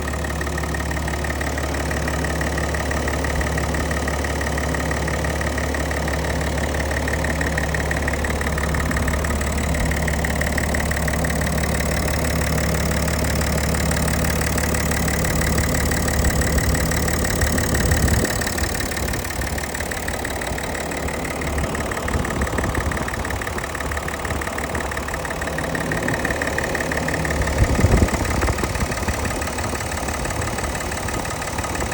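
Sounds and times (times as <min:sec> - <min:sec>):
diesel engine humming: 0:00.0 - 0:31.9.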